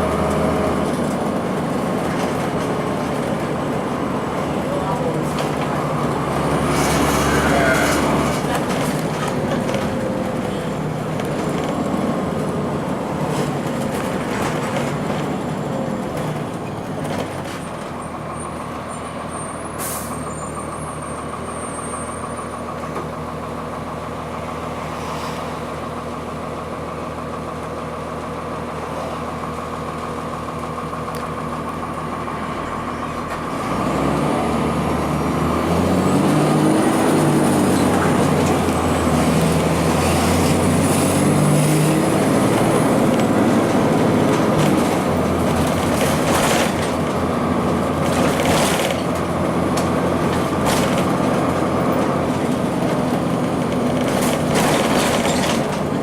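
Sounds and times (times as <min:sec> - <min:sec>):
diesel bus engine revving: 0:00.0 - 0:56.0.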